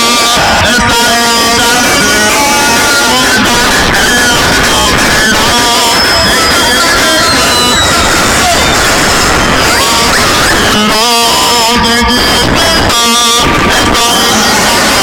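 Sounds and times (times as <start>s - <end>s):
loud guitar music from car stereo: 0.0s - 15.0s.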